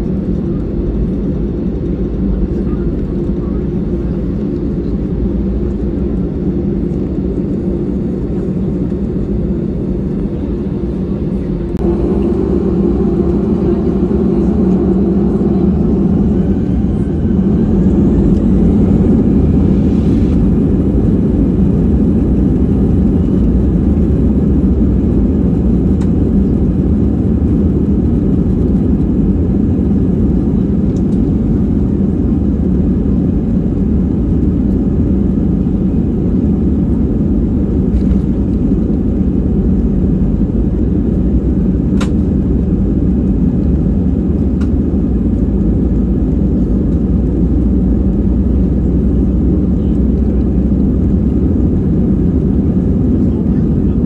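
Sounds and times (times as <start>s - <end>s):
low rumble of jet engines: 0.0s - 54.0s.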